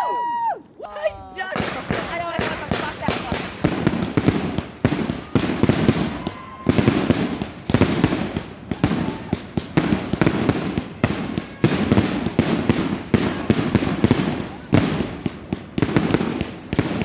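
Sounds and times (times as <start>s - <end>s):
firework crackling: 0.0s - 17.0s
firework shells bursting: 1.5s - 17.0s.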